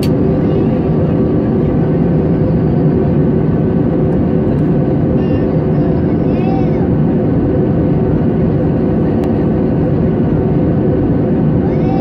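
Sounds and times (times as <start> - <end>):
jet cabin engine roar: 0.0 - 12.0.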